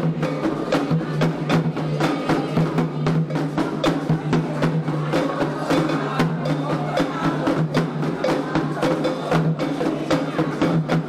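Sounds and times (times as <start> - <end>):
hand drums playing fast rhythm: 0.0 - 11.0.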